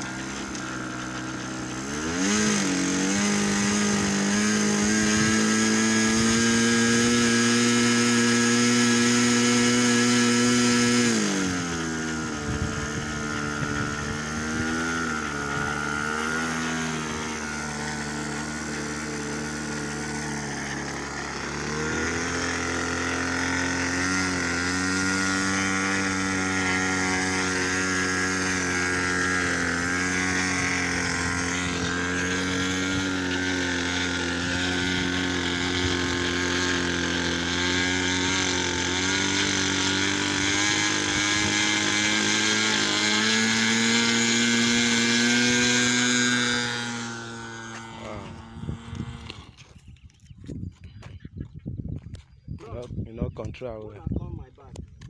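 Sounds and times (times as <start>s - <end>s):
model airplane engine running: 0.0s - 50.2s.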